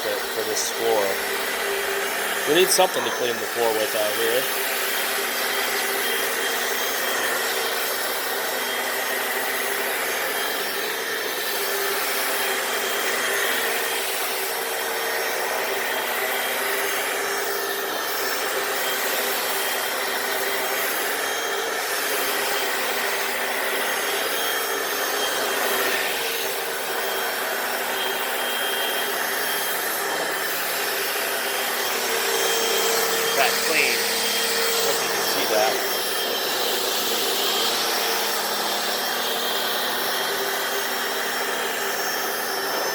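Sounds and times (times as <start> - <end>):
floor cleaner motor whine: 0.0 - 42.9.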